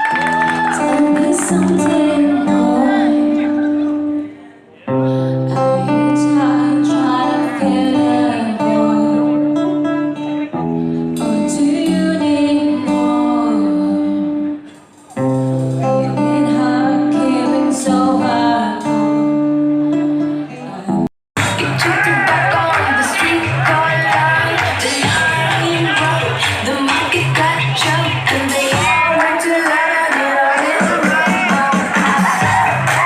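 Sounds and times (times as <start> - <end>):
person singing: 0.0 - 15.0, 15.7 - 33.0
band playing with guitar: 0.0 - 33.0.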